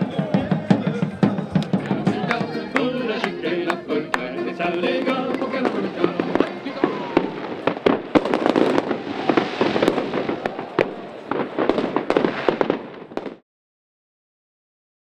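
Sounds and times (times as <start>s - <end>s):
fireworks bangs and crackles: 0.0s - 13.4s.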